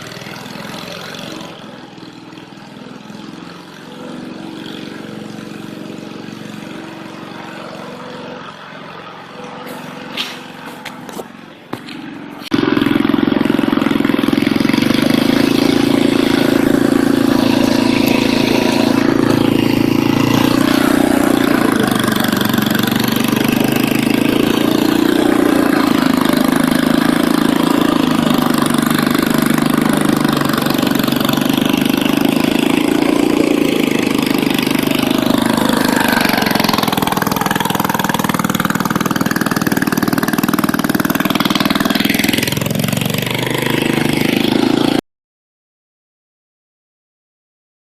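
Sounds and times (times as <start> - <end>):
snowblower engine running: 0.0 - 45.0.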